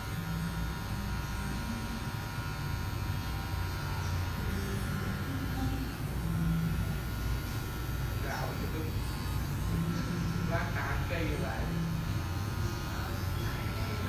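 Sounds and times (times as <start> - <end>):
electric hair clipper buzzing: 0.0 - 14.0.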